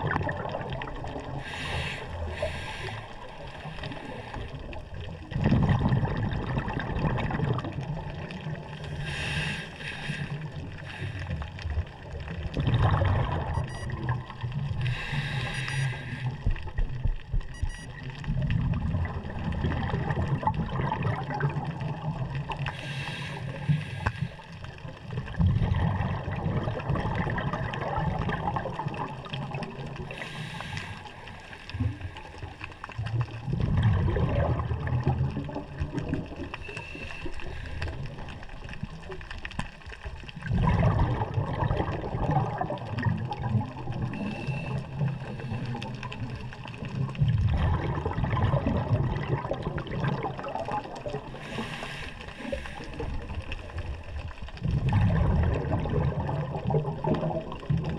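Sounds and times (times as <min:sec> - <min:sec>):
scuba exhaust bubbles rushing: 0:00.0 - 0:57.9
underwater rumble of moving water: 0:00.0 - 0:57.9.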